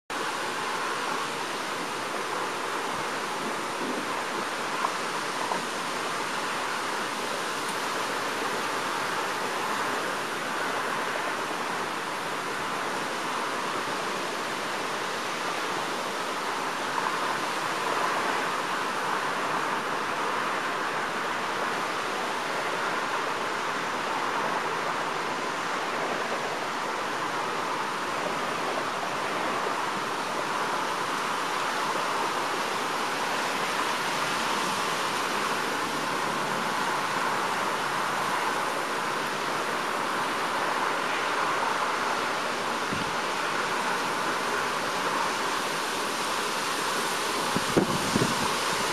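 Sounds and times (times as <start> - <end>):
strong wind through treetops: 0.1 - 48.9.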